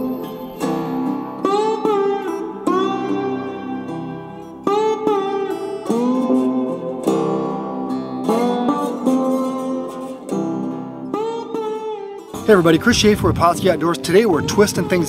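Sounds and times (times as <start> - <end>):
plucked string instrument chords: 0.0 - 15.0.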